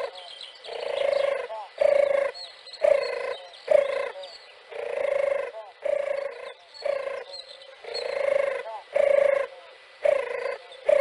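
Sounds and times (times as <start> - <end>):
dove purring: 0.0 - 11.0.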